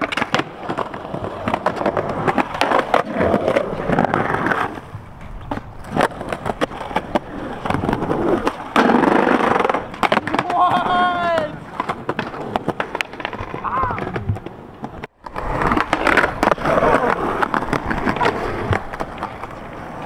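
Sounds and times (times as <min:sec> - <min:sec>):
skateboard clacking on ground: 0:00.0 - 0:20.0
skateboard wheels rolling on concrete: 0:00.0 - 0:20.0.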